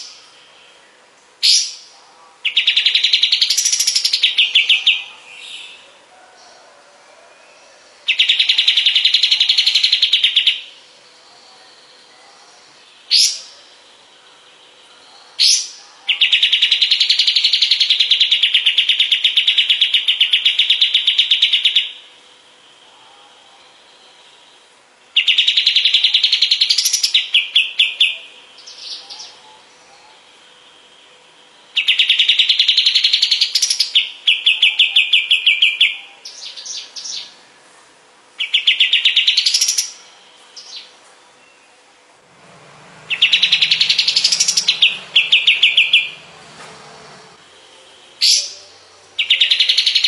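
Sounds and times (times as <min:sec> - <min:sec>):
bird singing rapid trills: 0:00.0 - 0:05.8, 0:07.4 - 0:37.4, 0:38.4 - 0:41.8, 0:42.6 - 0:50.0.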